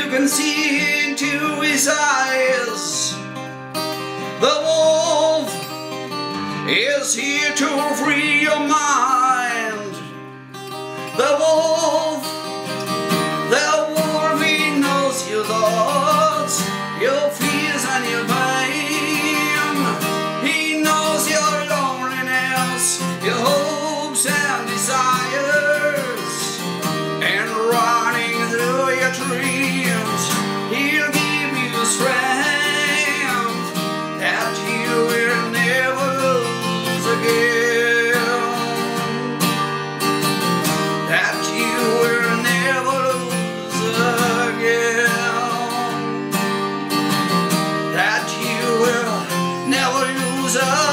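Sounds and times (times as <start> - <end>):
man singing: 0.0 - 3.4, 4.2 - 10.2, 10.9 - 39.9, 40.7 - 46.6, 47.7 - 50.9
acoustic guitar strumming: 0.0 - 50.9.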